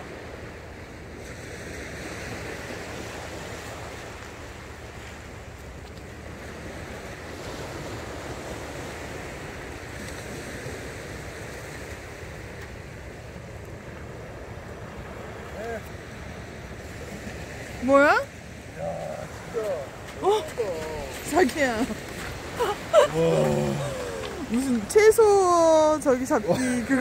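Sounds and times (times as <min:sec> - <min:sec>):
waves washing onto sand: 0:00.0 - 0:27.0.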